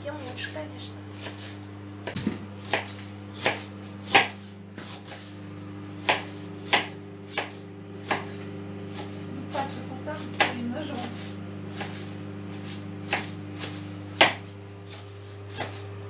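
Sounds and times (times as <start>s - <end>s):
low hum: 0.0s - 16.0s
knife cutting cabbage: 1.2s - 5.4s, 6.0s - 15.9s.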